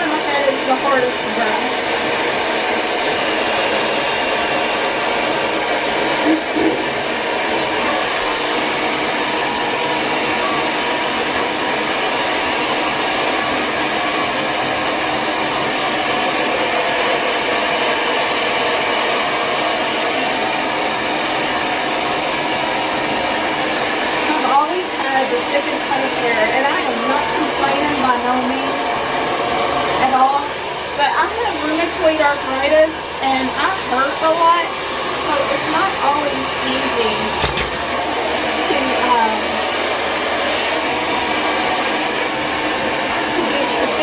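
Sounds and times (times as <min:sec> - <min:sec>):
hair dryer blowing air: 0:00.0 - 0:44.0.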